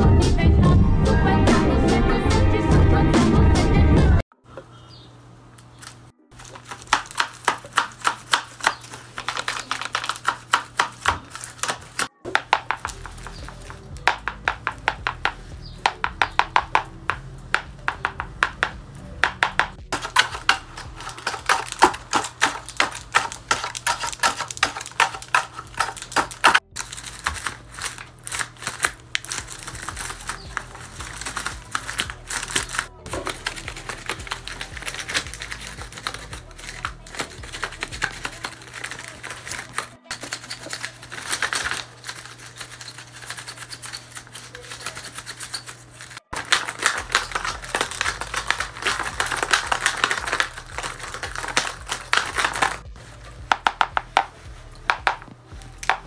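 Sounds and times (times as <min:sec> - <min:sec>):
dry paper clicks: 0:05.6 - 0:18.7, 0:19.3 - 0:52.9.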